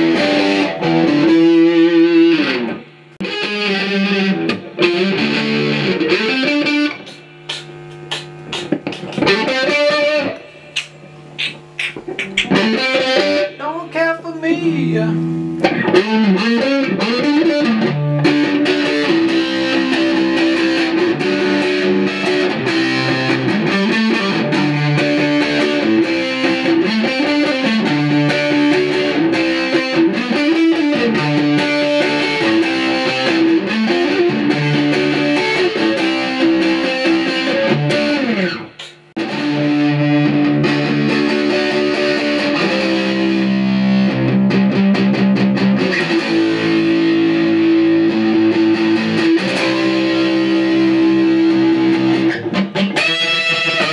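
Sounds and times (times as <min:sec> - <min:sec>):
electric guitar notes and chords: 0:00.0 - 0:53.9.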